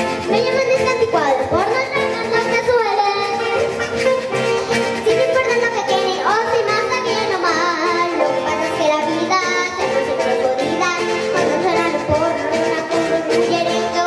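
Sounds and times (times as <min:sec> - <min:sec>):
strummed acoustic string instruments: 0:00.0 - 0:14.0
girl singing into a microphone: 0:00.3 - 0:14.0.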